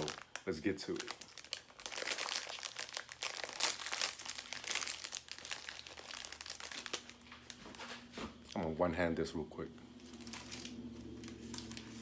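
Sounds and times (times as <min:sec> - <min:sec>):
plastic wrapper crinkling: 0:00.0 - 0:08.7, 0:09.9 - 0:12.0.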